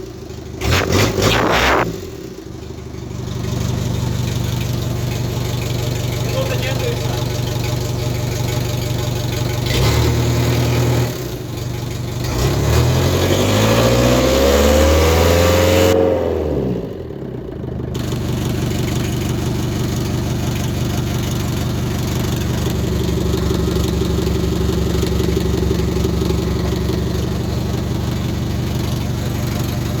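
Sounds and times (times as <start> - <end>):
van engine revving and idling: 0.0 - 30.0.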